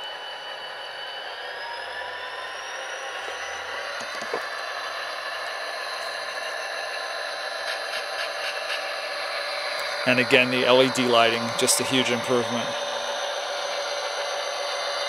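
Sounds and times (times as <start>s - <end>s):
high whine: 0.0s - 15.0s
model locomotive diesel sound: 0.0s - 15.0s.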